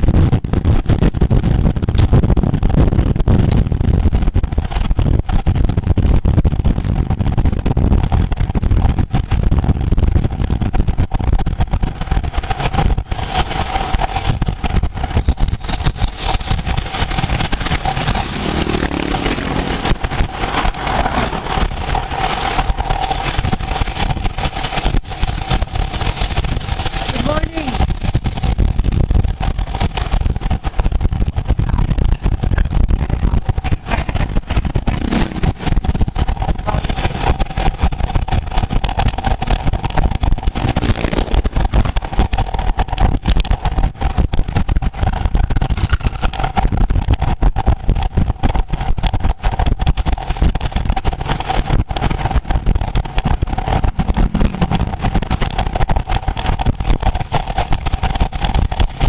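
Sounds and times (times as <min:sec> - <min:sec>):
road and tyre noise: 0:00.0 - 0:59.0
wind rushing over microphone: 0:00.0 - 0:59.0.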